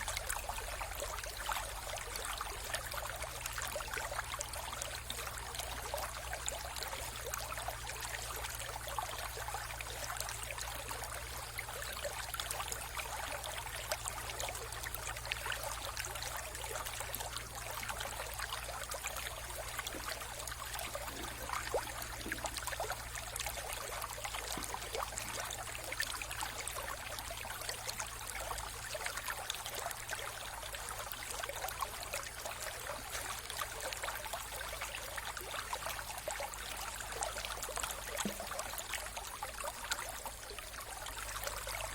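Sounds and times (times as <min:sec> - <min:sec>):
water splashes and gurgles: 0:00.0 - 0:41.9.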